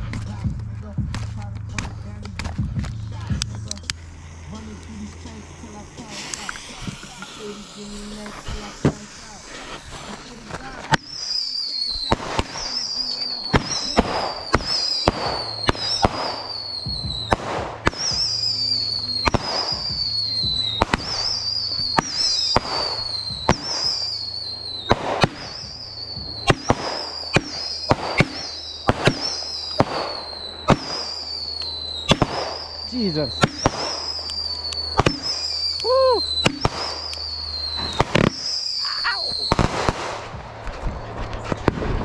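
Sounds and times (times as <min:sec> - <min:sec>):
firework cracks: 0:00.0 - 0:42.0
firework whistles falling in pitch: 0:05.7 - 0:41.2.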